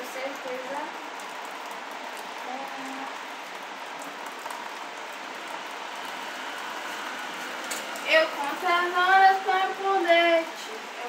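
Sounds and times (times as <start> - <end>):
steady rain hissing: 0.0 - 11.0.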